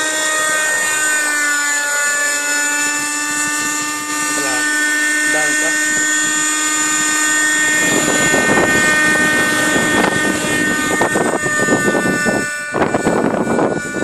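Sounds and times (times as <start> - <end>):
rc helicopter engine whine: 0.0 - 14.0
rough rushing noise: 2.4 - 14.0.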